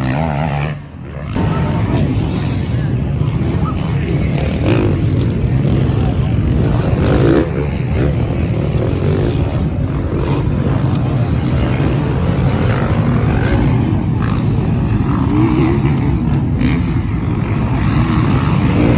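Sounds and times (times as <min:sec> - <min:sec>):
motocross bike engines revving: 0:00.0 - 0:18.9.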